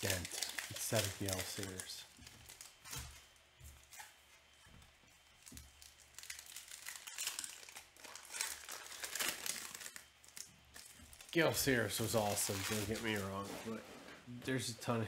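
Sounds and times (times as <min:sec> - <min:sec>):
foil wrappers crinkling and tearing: 0:00.0 - 0:04.2, 0:05.2 - 0:13.8.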